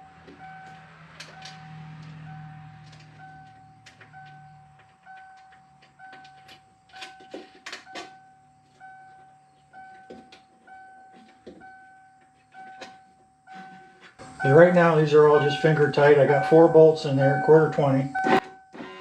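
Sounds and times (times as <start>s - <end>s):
dashboard warning chime dinging: 0.0s - 19.0s.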